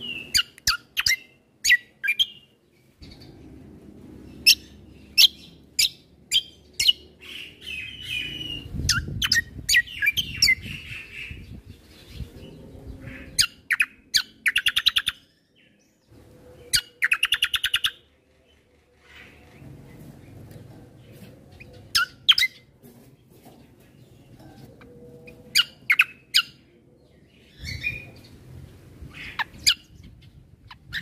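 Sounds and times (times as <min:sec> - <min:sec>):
songbird singing: 0:00.0 - 0:31.0.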